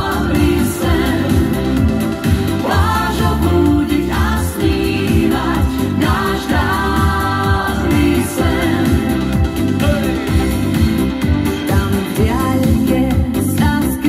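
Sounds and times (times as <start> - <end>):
woman and man singing pop duet: 0.0 - 10.2, 11.6 - 14.0
amplified accompaniment with beat: 0.0 - 14.0.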